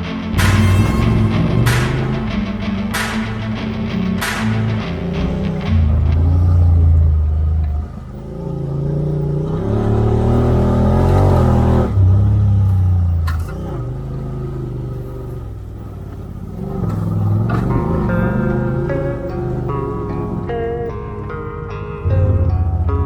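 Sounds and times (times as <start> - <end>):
utv engine revving: 0.4 - 23.0.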